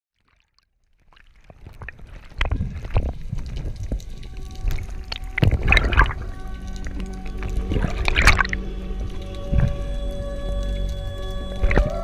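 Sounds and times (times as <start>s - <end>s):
underwater clicks and crackles: 0.2s - 12.0s
underwater rumbling: 1.0s - 12.0s.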